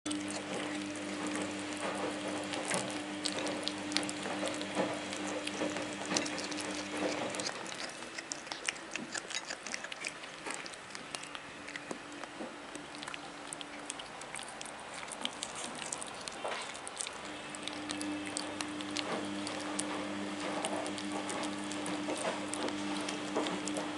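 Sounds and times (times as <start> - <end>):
kittens chewing and lapping: 0.0 - 23.9.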